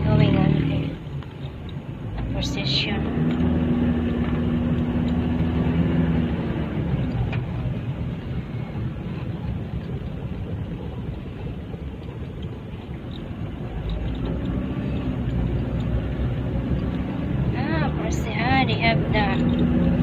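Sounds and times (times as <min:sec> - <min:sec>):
engines in slow traffic: 0:00.0 - 0:20.0.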